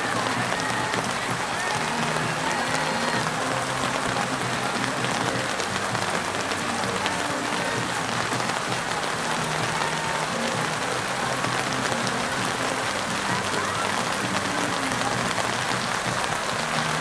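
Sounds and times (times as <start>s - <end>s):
raindrops ticking close: 0.0s - 17.0s
steady rain falling: 0.0s - 17.0s.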